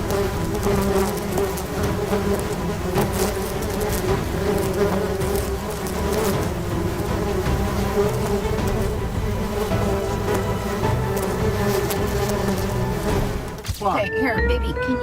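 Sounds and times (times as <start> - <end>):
pitched buzzing drone: 0.0 - 13.6.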